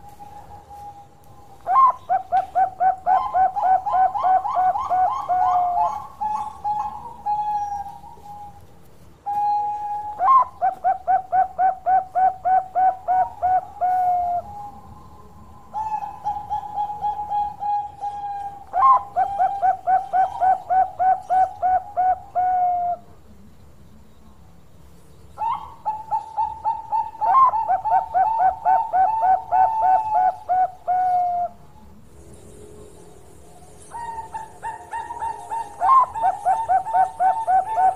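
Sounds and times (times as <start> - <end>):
dove cooing: 0.0 - 8.6, 9.3 - 23.1, 25.4 - 31.7, 33.8 - 37.9.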